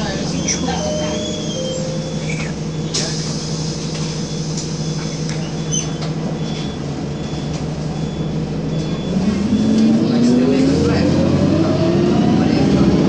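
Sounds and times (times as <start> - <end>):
bus diesel engine idling: 0.0 - 13.0
bus engine revving: 0.0 - 13.0.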